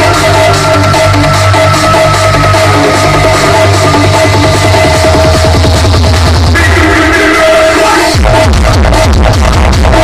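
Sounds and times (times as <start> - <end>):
electronic dance music: 0.0 - 10.0
heavy pulsing bass beat: 0.0 - 10.0.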